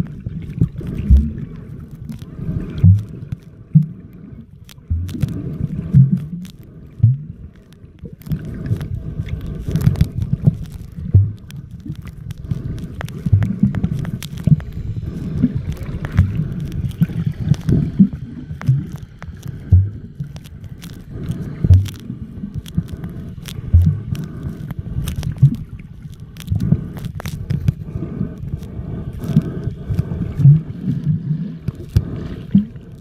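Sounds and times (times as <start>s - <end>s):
muffled underwater sloshing: 0.0s - 33.0s
sharp clicks and crackles: 0.0s - 33.0s.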